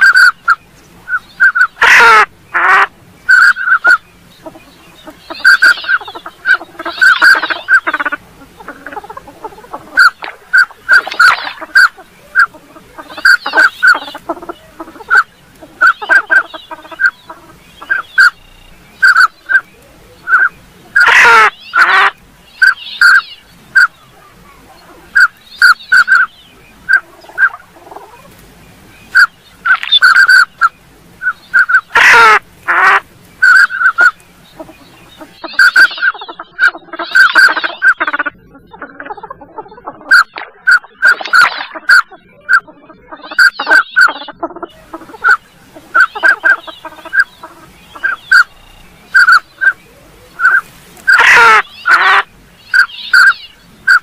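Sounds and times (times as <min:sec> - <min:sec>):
duck whistled calls: 0:00.0 - 0:08.2, 0:09.9 - 0:24.0, 0:25.1 - 0:26.3, 0:29.1 - 0:54.0
harsh duck calls: 0:00.0 - 0:28.3, 0:29.1 - 0:54.0.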